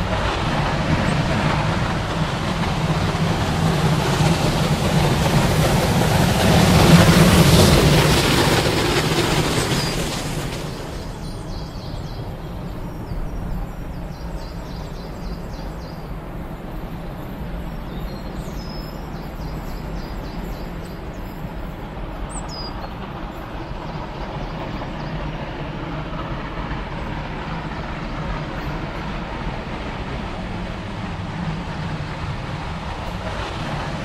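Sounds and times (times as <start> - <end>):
steam locomotive exhaust rumble: 0.0 - 34.0.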